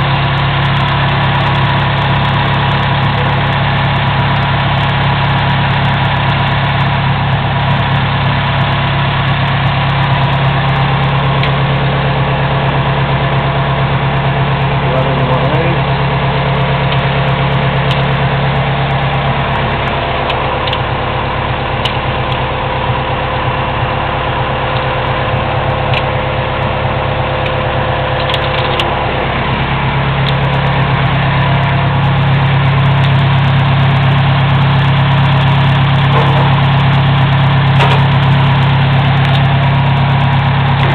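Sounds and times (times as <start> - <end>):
forklift engine idling: 0.0 - 40.9.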